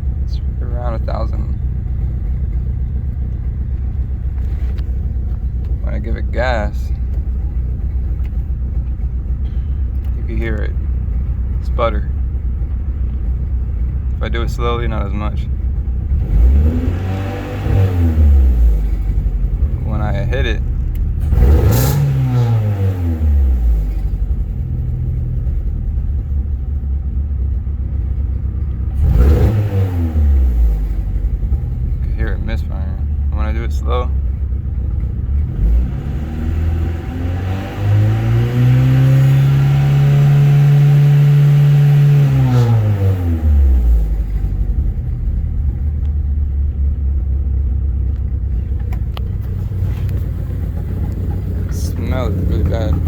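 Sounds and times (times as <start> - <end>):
car engine revving and sputtering: 0.0 - 53.0.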